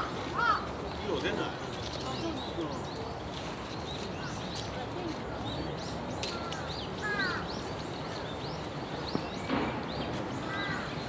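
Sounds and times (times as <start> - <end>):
outdoor background noise: 0.0 - 11.0
small birds chirping: 0.0 - 11.0.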